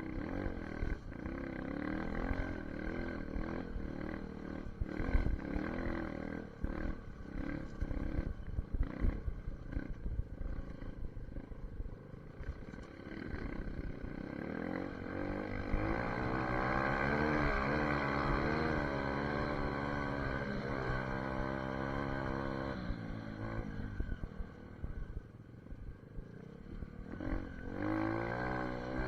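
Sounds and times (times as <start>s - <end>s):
dirt bike engine revving: 0.0s - 11.0s, 13.0s - 24.5s, 27.0s - 29.0s.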